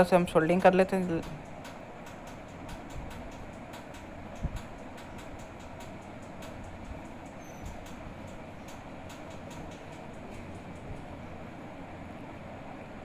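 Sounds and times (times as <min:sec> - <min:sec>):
background rumble with hum: 0:00.0 - 0:13.0.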